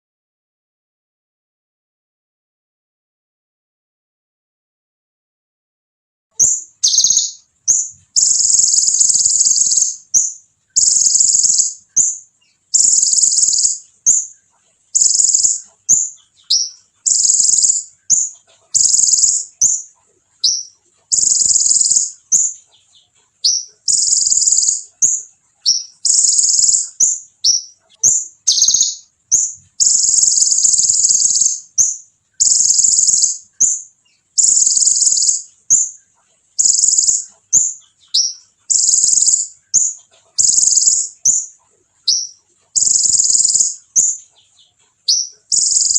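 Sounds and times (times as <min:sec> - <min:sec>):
bird singing shrill trills: 0:06.4 - 0:36.0, 0:36.6 - 0:45.9
bird chips: 0:06.4 - 0:45.9.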